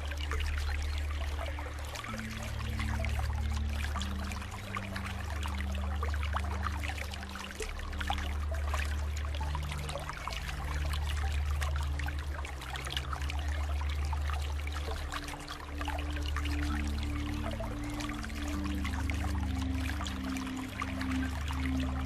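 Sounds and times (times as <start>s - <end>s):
water flowing and trickling: 0.0s - 22.0s.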